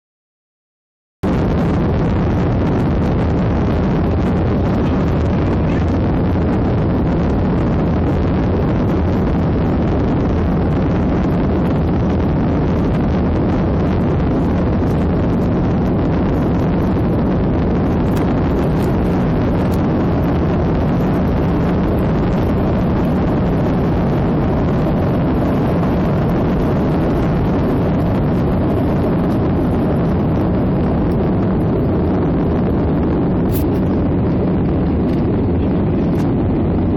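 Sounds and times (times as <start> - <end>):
jet engines roaring: 1.2 - 36.9.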